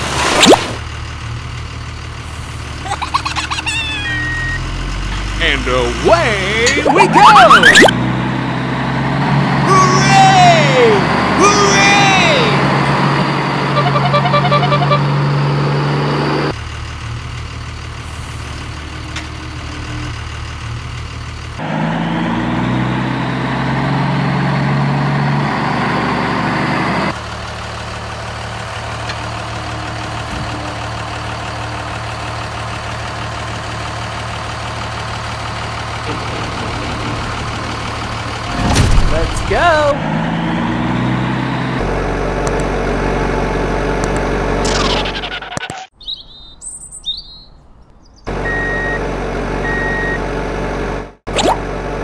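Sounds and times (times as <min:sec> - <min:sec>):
truck engine idling and revving: 0:00.0 - 0:52.0.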